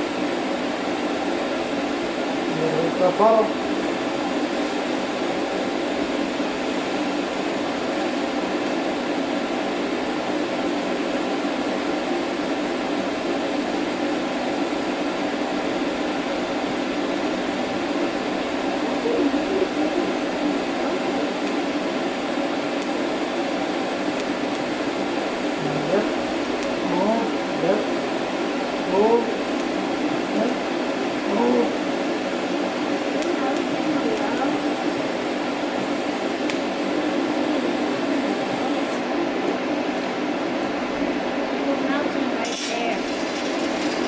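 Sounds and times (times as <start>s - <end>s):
welder hiss and hum: 0.0s - 39.1s.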